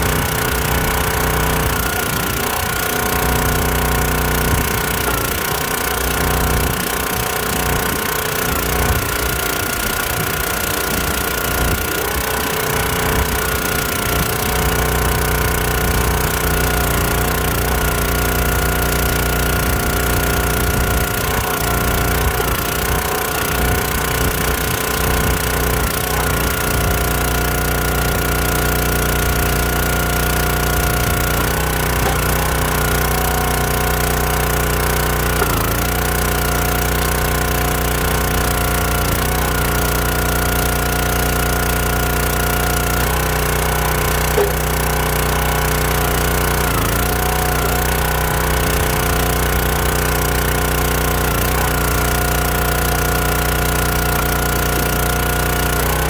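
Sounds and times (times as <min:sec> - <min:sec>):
log splitter engine running: 0:00.0 - 0:56.0.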